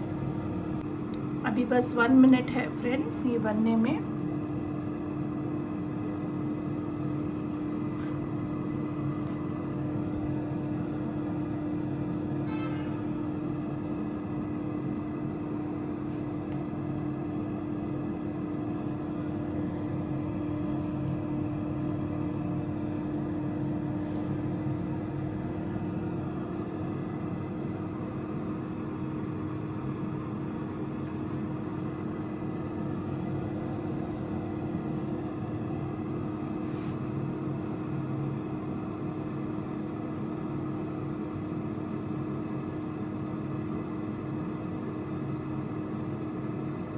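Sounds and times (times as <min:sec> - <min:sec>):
air fryer fan humming: 0:00.0 - 0:46.9.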